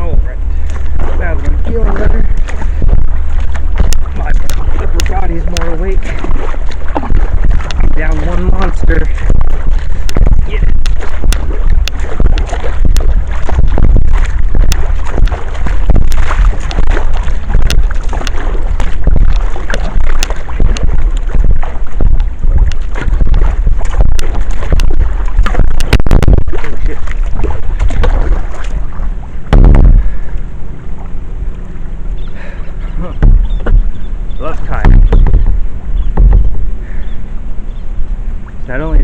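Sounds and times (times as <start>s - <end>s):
paddle splashing and clacking: 0.0s - 31.2s, 32.2s - 39.0s
wind buffeting microphone: 0.0s - 39.0s
low thump: 0.7s - 28.8s, 29.5s - 30.3s, 33.2s - 34.0s, 34.6s - 36.8s.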